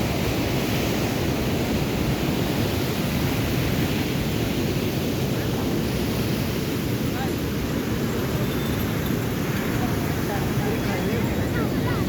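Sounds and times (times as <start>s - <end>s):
wind and surf rushing: 0.0s - 12.0s.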